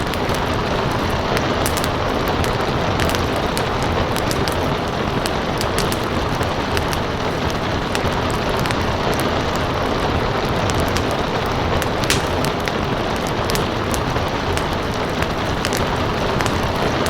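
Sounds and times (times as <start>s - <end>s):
fireplace crackling and popping: 0.0s - 17.0s
rain hiss: 0.0s - 17.0s.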